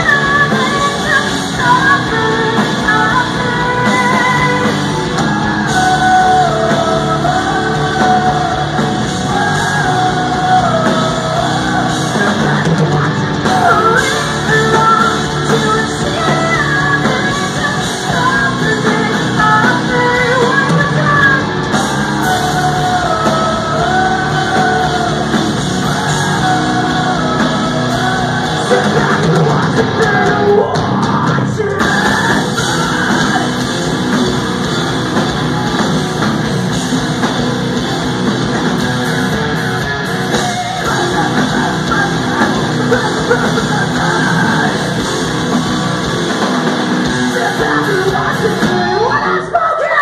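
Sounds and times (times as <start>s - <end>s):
woman singing: 0.0s - 33.7s, 40.3s - 45.1s, 47.3s - 50.0s
drums: 0.0s - 50.0s
electric guitars: 0.0s - 50.0s
live hard rock band: 0.0s - 50.0s.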